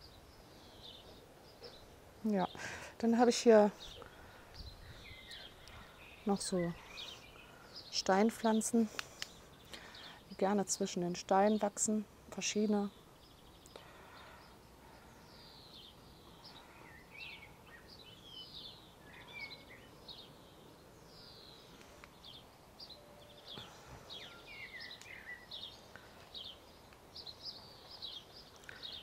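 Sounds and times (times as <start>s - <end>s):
faint outdoor hiss: 0.0s - 29.0s
small birds chirping: 0.0s - 29.0s.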